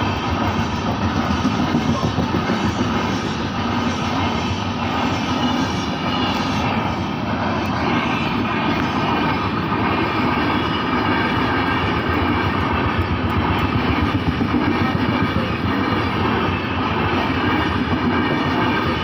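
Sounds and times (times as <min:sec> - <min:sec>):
train running past: 0:00.0 - 0:19.0.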